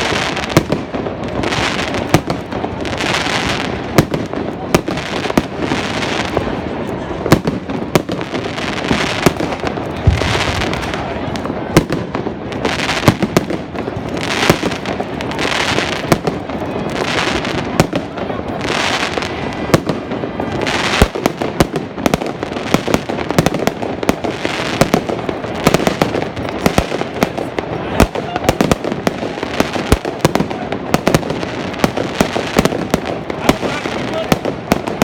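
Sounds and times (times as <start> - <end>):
fireworks crackling: 0.0 - 35.0.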